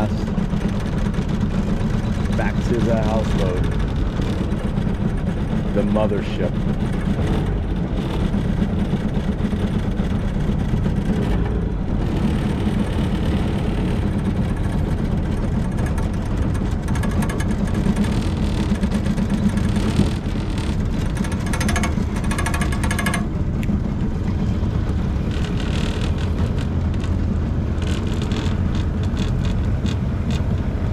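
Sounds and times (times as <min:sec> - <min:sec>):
boat motor running: 0:00.0 - 0:30.9.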